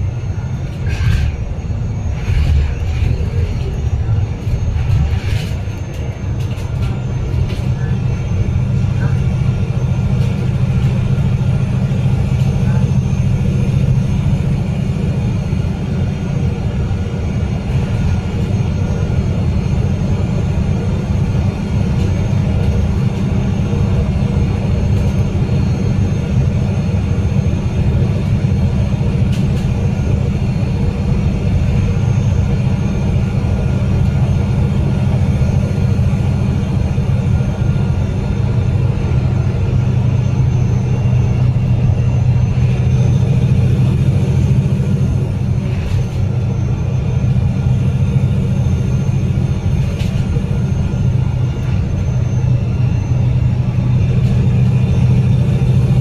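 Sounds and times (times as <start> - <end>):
bus diesel engine droning: 0.0 - 56.0
tyre and road noise: 0.0 - 56.0.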